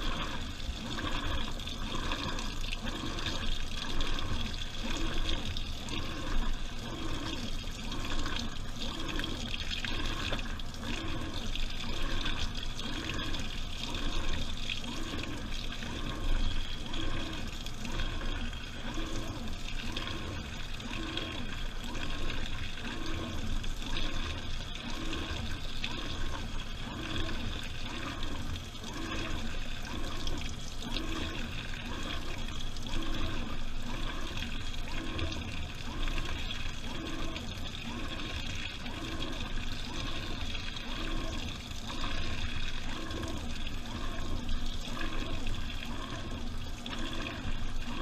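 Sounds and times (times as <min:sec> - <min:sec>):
water and laundry sloshing in drum: 0:00.0 - 0:48.0.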